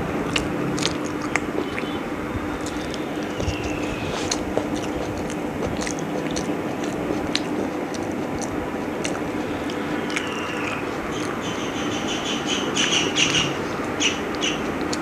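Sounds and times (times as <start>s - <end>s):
mouth clicks: 0.0s - 15.0s
person chewing food: 0.0s - 15.0s.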